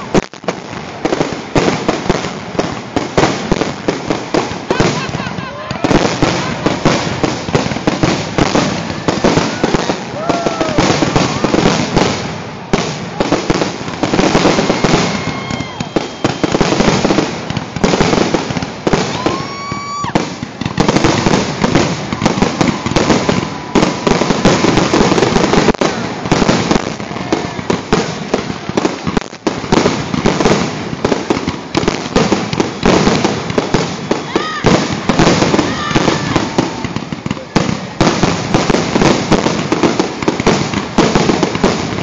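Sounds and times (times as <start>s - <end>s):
fireworks bangs and crackles: 0.0s - 42.0s
fireworks whistles: 0.0s - 42.0s.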